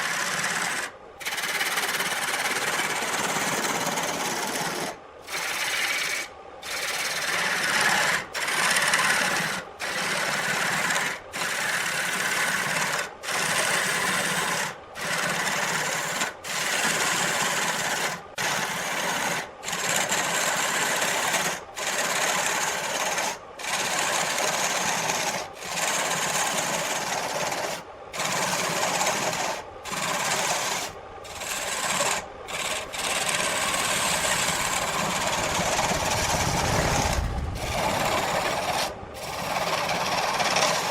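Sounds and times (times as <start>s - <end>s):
wood lathe cutting rasping hiss: 0.0s - 40.9s.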